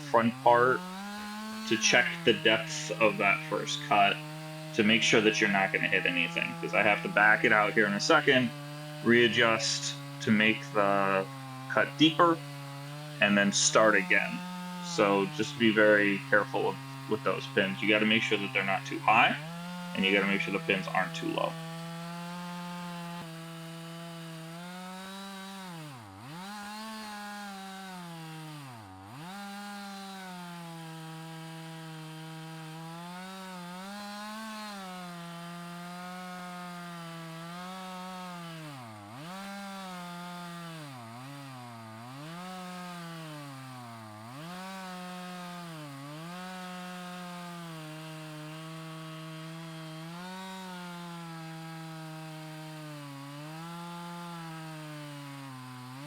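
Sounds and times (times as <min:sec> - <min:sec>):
chainsaw ripping log: 0:00.0 - 0:56.0.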